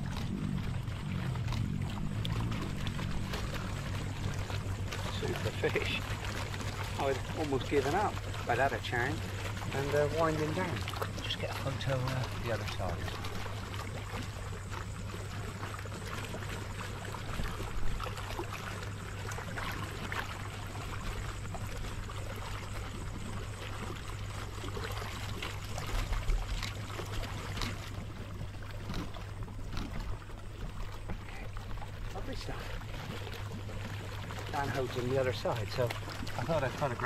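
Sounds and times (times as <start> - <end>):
fish splashing in water: 0.0 - 37.0
low hum: 0.0 - 37.0
water gushing from a hose: 0.0 - 37.0.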